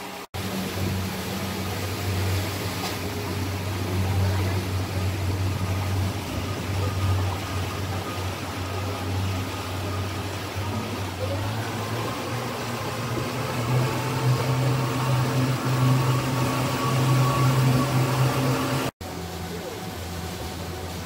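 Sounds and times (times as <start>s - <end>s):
boat engine humming: 0.0s - 21.0s
rushing hiss of water: 0.0s - 21.0s.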